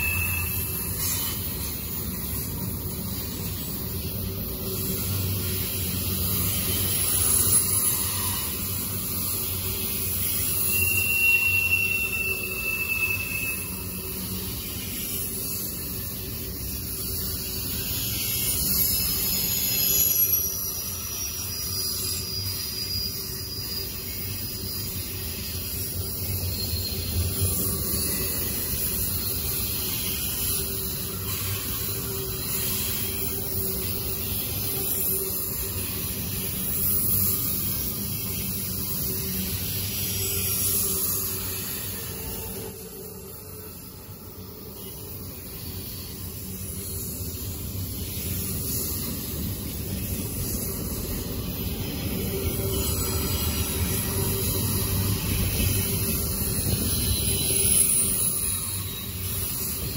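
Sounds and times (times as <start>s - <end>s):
high wheel squeals: 0.0s - 59.9s
train wheels rumbling on rails: 0.0s - 59.9s.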